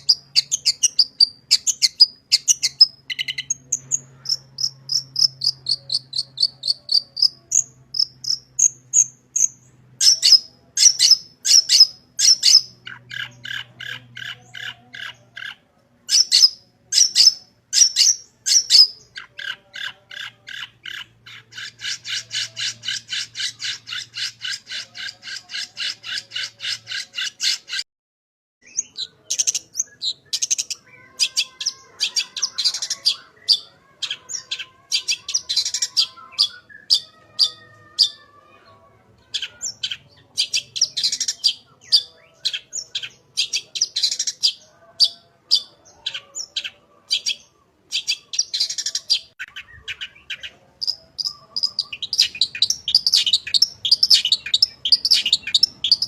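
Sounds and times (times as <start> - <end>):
bird singing varied song: 0.0 - 27.8, 28.6 - 56.0.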